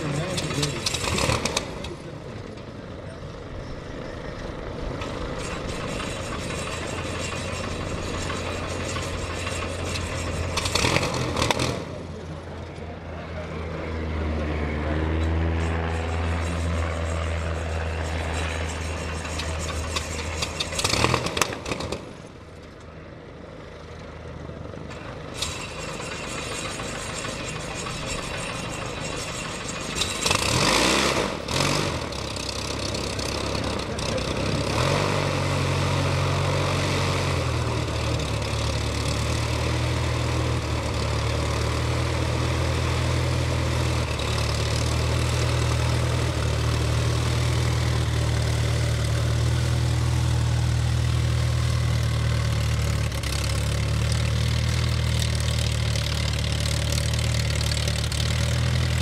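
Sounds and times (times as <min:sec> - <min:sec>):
piston engine starting and idling: 0:00.0 - 0:13.0, 0:17.6 - 0:22.9, 0:24.8 - 0:59.0.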